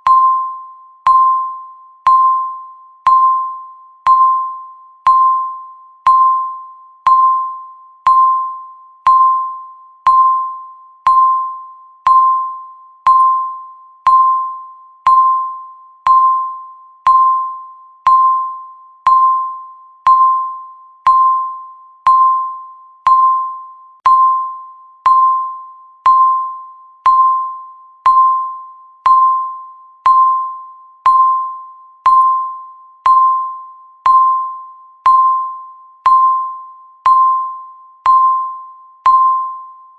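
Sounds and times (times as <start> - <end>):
bell-like electronic ping: 0.0 - 39.9.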